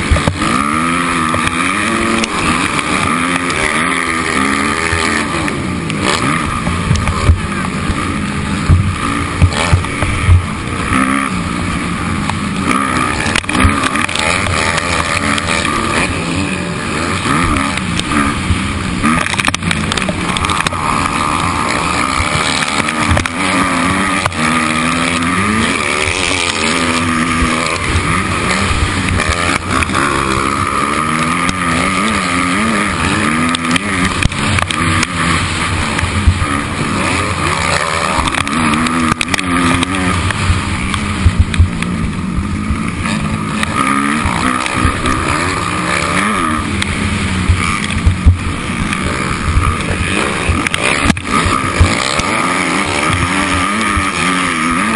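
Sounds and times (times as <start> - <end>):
constant rushing noise: 0.0 - 54.9
motocross engine revving: 0.0 - 54.9.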